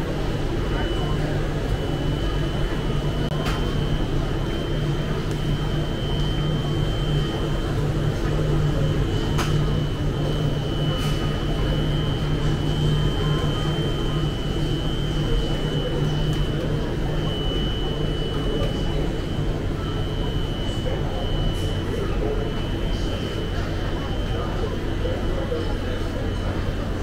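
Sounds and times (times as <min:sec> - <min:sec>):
faint background voices: 0:00.0 - 0:27.0
refrigerated cases humming: 0:00.0 - 0:27.0.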